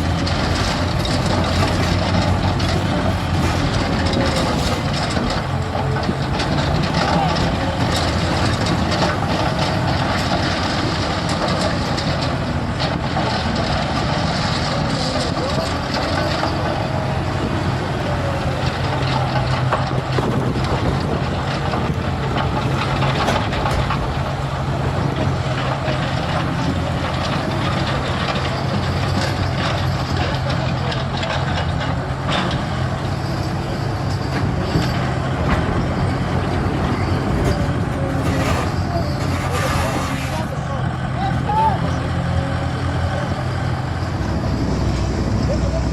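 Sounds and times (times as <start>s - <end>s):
diesel engine rumbling: 0.0s - 45.9s.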